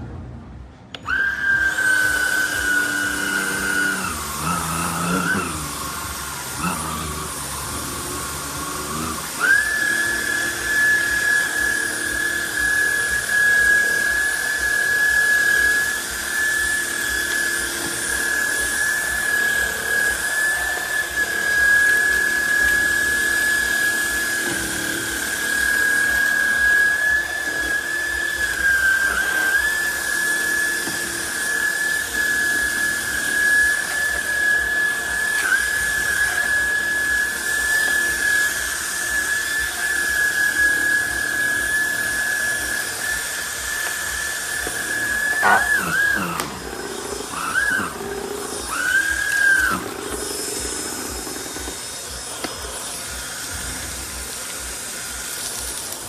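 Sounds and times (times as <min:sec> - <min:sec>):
vacuum motor whining: 0:00.0 - 0:56.0.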